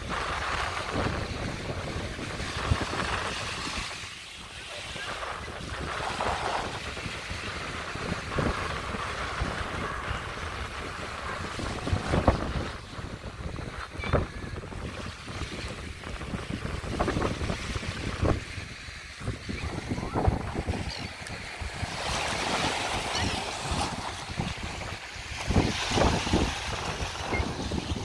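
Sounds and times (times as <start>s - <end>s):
small waves lapping on shore: 0.0s - 28.0s
water splashes: 0.0s - 28.0s
wind buffeting microphone: 0.0s - 28.0s.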